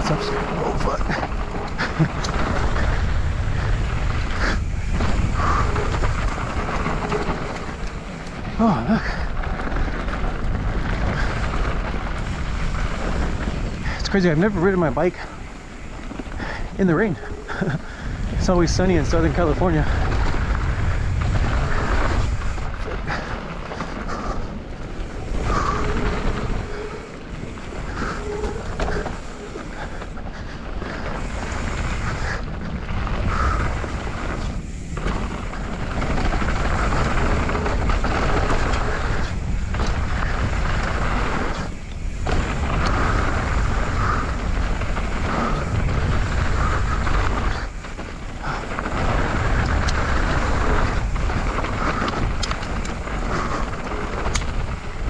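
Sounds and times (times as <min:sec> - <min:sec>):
bike tyres on dirt trail: 0:00.0 - 0:55.0
wind buffeting microphone: 0:00.0 - 0:55.0.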